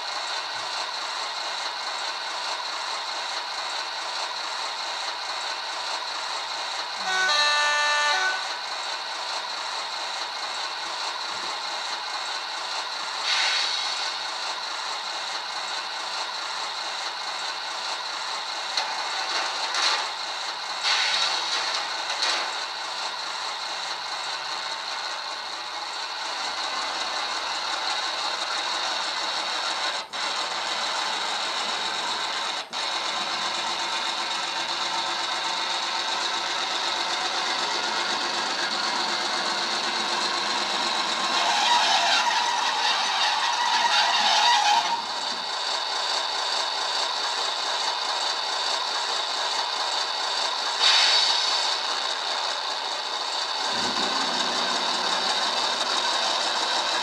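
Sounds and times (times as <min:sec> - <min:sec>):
model train diesel engine sound: 0:00.0 - 0:57.0.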